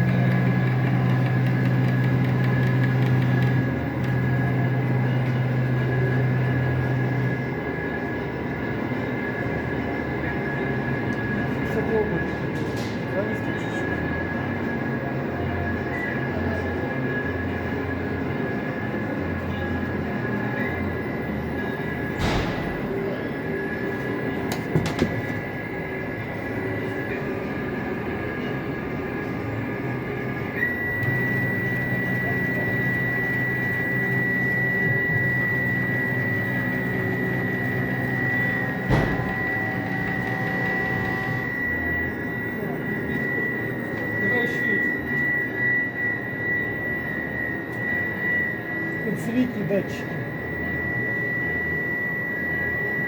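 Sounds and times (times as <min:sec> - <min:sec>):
machine high whine: 0:00.0 - 0:53.0
machine low hum: 0:00.0 - 0:53.0.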